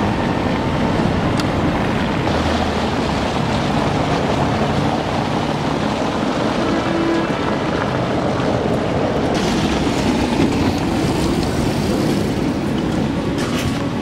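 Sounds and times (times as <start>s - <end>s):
electric tram running: 0.0s - 14.0s.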